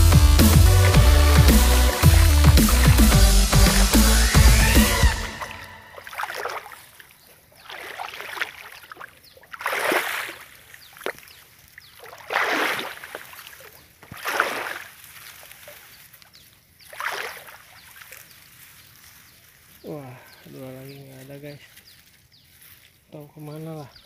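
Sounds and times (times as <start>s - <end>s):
footsteps splashing through water: 0.0s - 19.8s.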